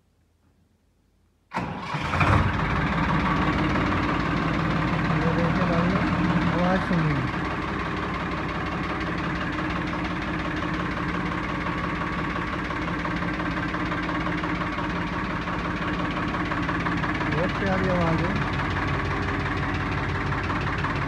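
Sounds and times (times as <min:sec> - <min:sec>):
tractor diesel engine idling: 0:01.5 - 0:21.0.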